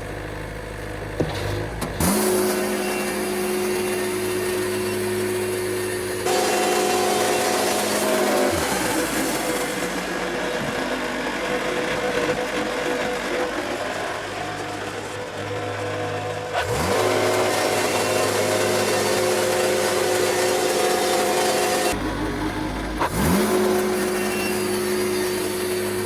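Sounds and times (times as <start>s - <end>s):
band sawmill running: 0.0s - 26.0s.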